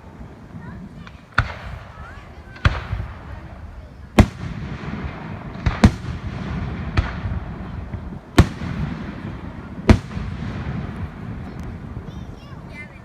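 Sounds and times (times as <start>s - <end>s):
distant fireworks rumble: 0.0s - 13.0s
fireworks bangs: 0.0s - 13.0s.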